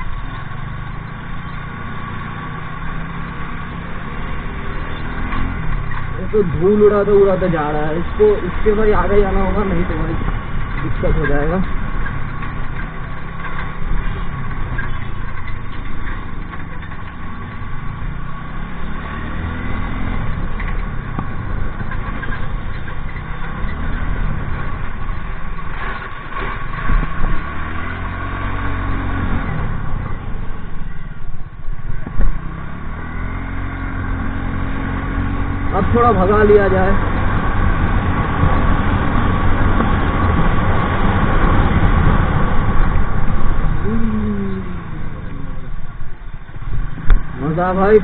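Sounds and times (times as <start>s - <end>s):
scooter engine revving: 0.0s - 31.2s, 31.8s - 46.2s.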